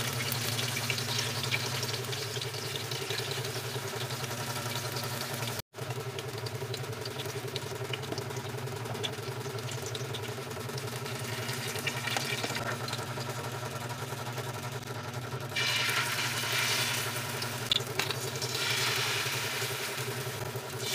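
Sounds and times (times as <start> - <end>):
batter sizzling in oil: 0.0 - 13.6, 15.5 - 20.9
food frying in hot oil: 0.0 - 20.9.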